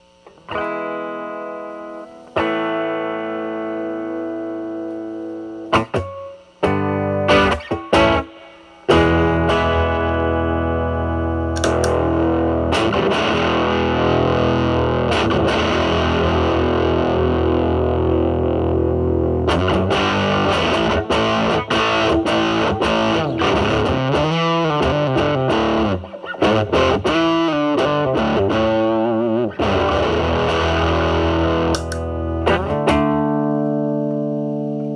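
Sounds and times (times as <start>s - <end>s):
distorted electric guitar: 0.0s - 34.9s.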